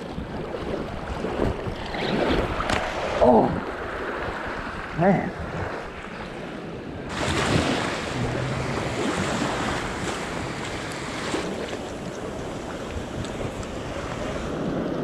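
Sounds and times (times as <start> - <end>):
wind buffeting microphone: 0.0 - 15.0
ocean surf washing up beach: 0.7 - 15.0.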